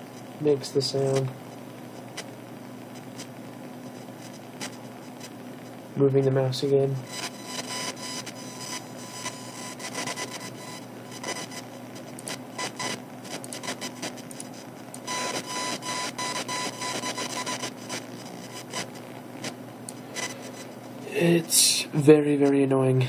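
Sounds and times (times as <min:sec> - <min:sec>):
faint steady hum: 0:00.0 - 0:23.0
speakers buzzing and crackling: 0:00.0 - 0:23.0.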